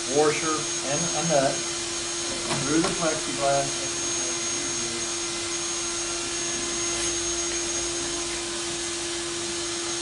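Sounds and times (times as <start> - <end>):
machinery droning hum: 0.0 - 10.0
thin high whine: 0.0 - 10.0.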